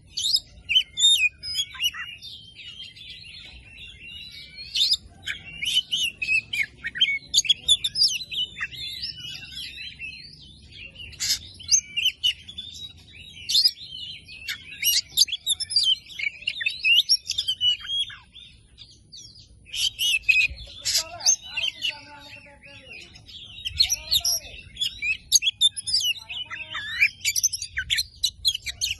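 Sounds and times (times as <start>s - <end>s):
bird singing whistles and trills: 0.0s - 28.9s.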